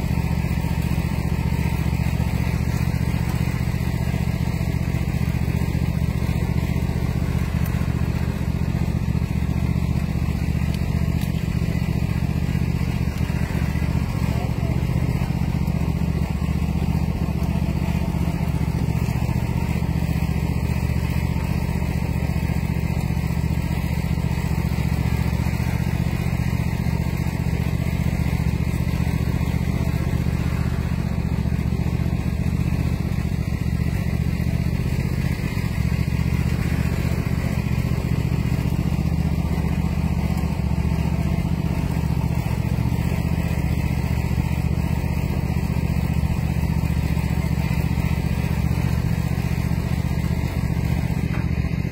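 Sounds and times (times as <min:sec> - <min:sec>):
small engine running: 0:00.0 - 0:51.9.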